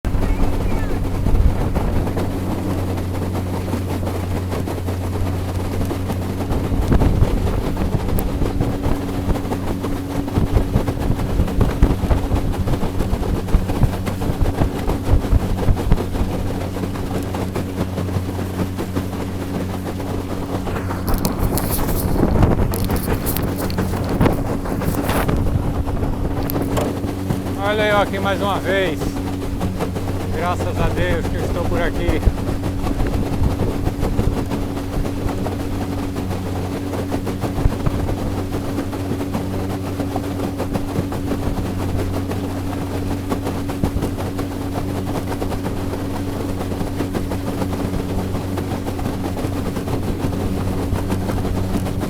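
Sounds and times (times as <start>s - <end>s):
outboard motor running: 0.0s - 52.0s
wind buffeting microphone: 0.0s - 52.0s.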